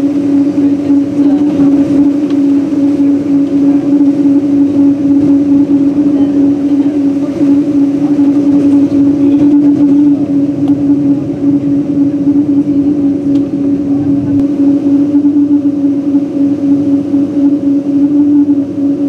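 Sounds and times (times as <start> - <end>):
jet engines drone in cabin: 0.0 - 19.0.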